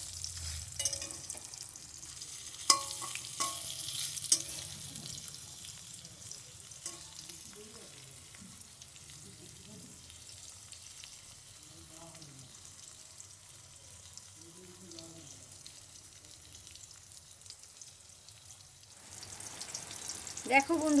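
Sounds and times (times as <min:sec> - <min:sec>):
patties sizzling in oil: 0:00.0 - 0:21.0.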